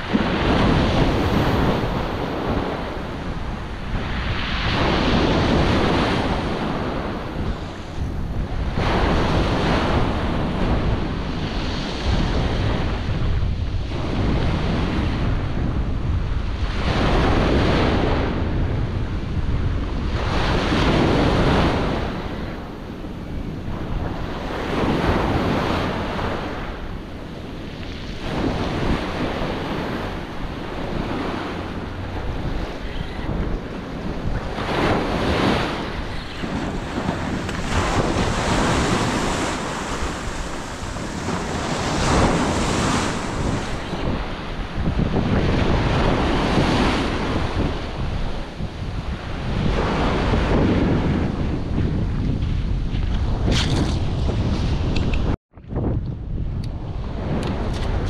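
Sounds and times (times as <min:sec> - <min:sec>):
ocean surf breaking on beach: 0:00.0 - 0:55.4
wind buffeting microphone: 0:00.0 - 0:58.0.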